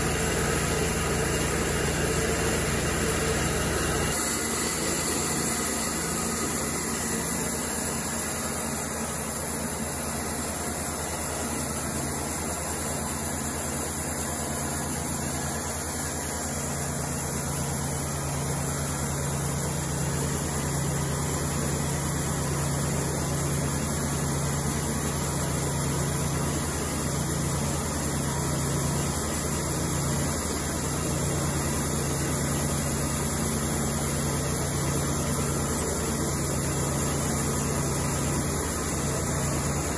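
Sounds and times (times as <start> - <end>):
sawmill engine running under load: 0.0 - 39.9.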